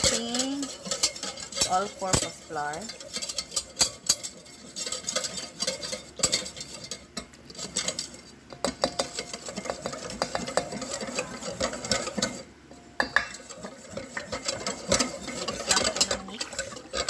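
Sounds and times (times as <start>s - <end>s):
utensil clinking against bowl: 0.0s - 17.0s
utensil stirring batter in bowl: 0.0s - 17.0s.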